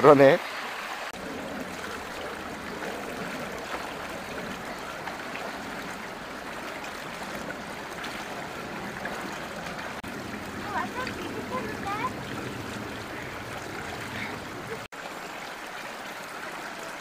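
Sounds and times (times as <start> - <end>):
stream flowing over stones: 0.0 - 17.0.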